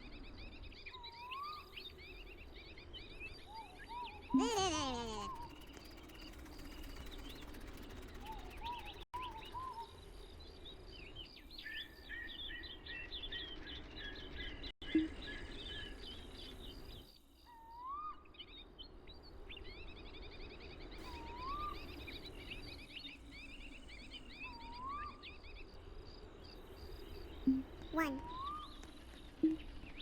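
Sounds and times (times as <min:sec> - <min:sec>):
small birds chirping: 0:00.9 - 0:17.0, 0:20.4 - 0:29.9.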